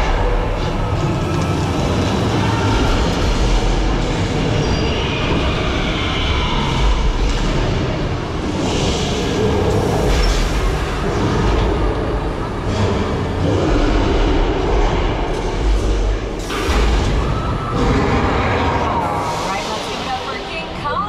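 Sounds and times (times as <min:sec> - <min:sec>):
tram rumbling and rattling: 0:00.0 - 0:21.0.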